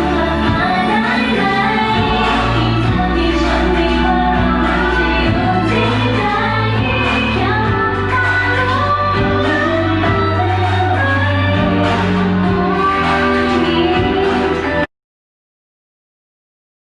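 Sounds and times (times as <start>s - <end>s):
pop song with vocals: 0.0s - 14.9s.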